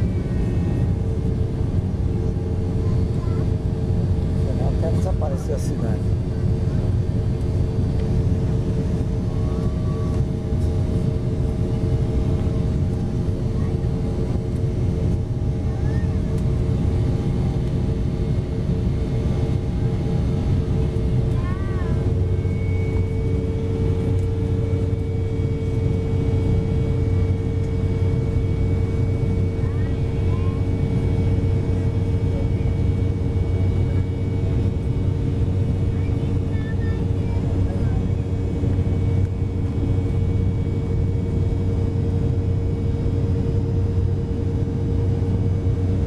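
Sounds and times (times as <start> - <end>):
airplane cabin rumble: 0.0 - 46.0
constant hum: 0.0 - 46.0.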